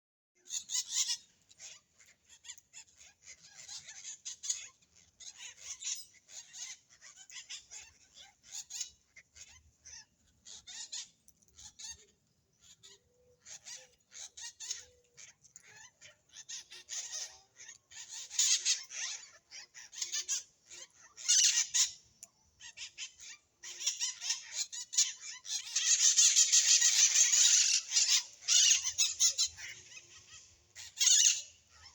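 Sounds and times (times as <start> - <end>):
birds chirping rapidly: 0.4 - 31.9.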